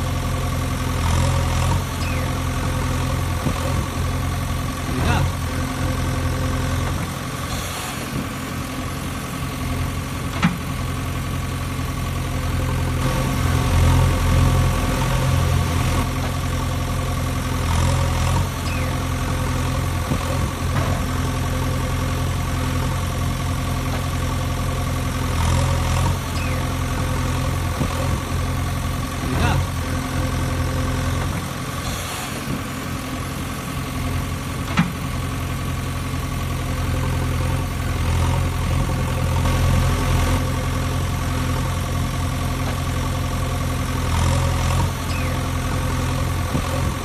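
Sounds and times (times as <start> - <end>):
engine idling hum: 0.0 - 47.0.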